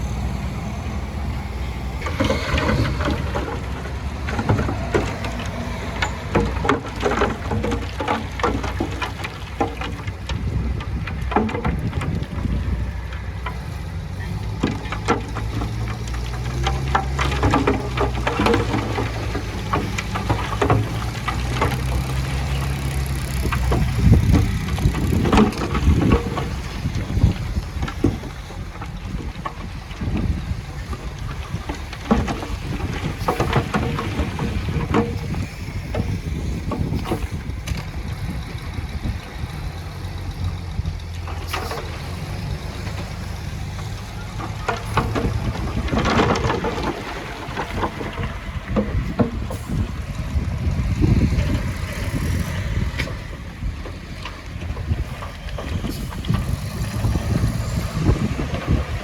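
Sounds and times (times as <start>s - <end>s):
heavy machinery diesel engine: 0.0s - 59.0s
short knocks and clatters: 2.0s - 59.0s.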